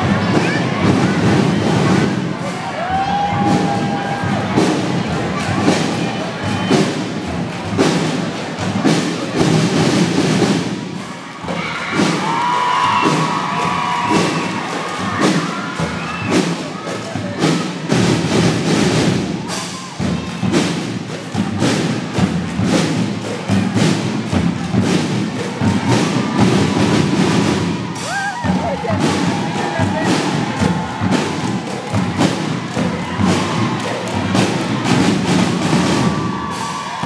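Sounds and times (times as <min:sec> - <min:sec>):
marching drums beating: 0:00.0 - 0:37.0.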